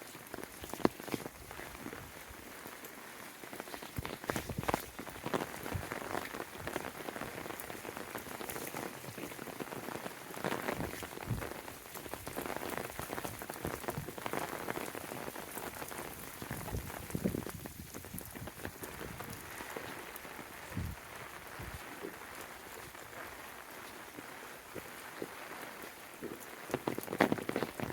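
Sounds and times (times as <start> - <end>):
raindrops pattering: 0.0 - 27.9
steady rain falling: 0.0 - 27.9.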